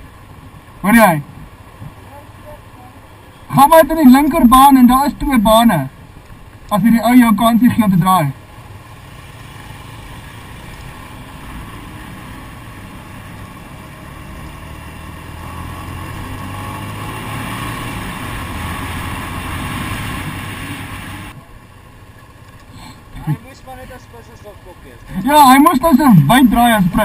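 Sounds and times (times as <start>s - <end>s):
motorcycle running: 0.0s - 27.0s.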